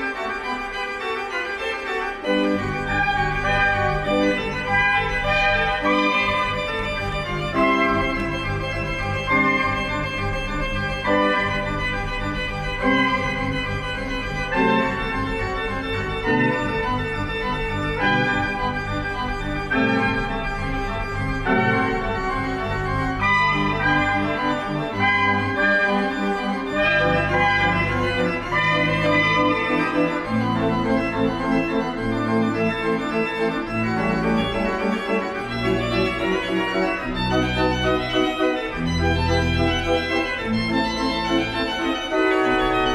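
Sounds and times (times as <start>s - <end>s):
organ chords: 0.0s - 42.9s.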